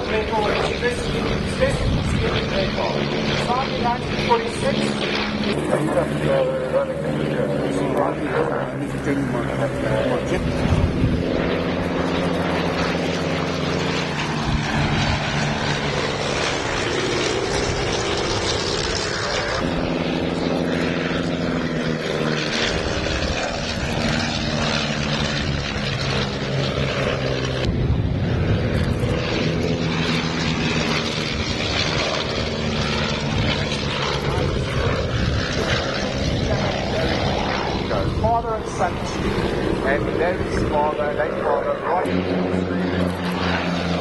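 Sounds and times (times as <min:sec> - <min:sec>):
propeller planes droning: 0:00.0 - 0:44.0.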